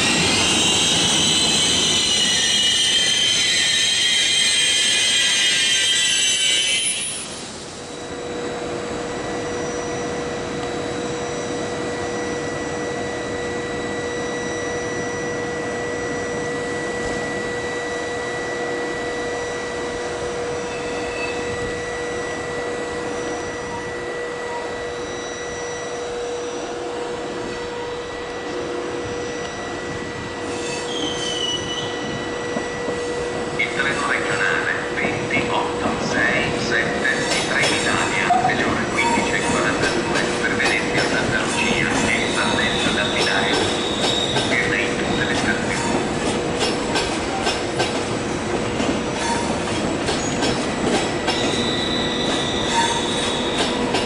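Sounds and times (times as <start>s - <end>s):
train wheels squealing: 0.0s - 8.5s, 9.1s - 26.8s, 27.4s - 48.0s, 49.1s - 54.0s
electric train hum and hiss: 6.6s - 54.0s.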